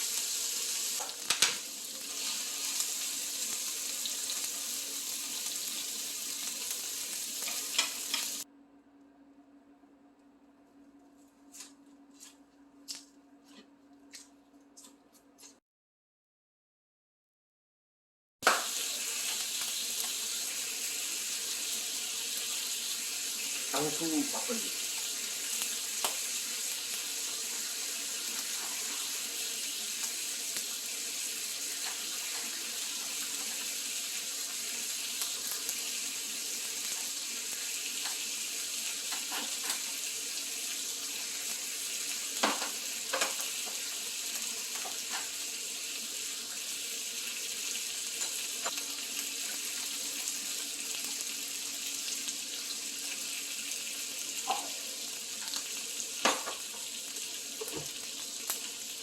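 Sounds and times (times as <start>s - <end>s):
food sizzling in a pan: 0.0s - 8.5s, 18.4s - 59.0s.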